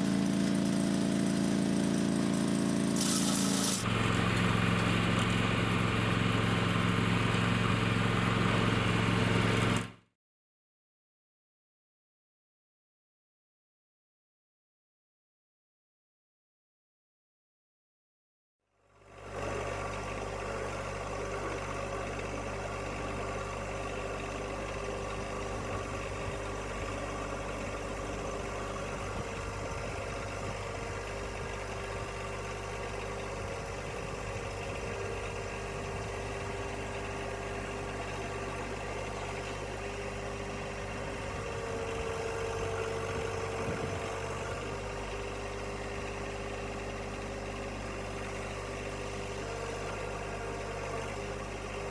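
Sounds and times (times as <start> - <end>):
engine running steadily: 0.0 - 10.0, 19.0 - 51.9.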